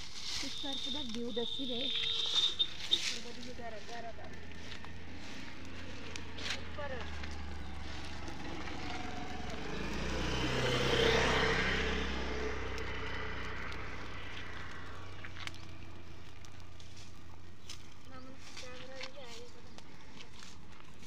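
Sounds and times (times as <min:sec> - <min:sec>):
road vehicle passing: 0:00.0 - 0:21.0.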